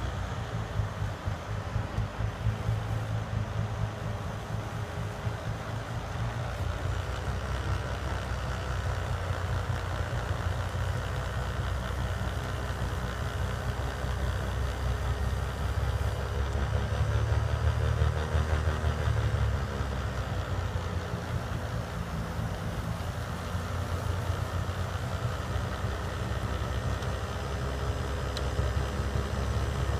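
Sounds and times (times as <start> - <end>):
skid steer engine running: 0.0 - 29.9.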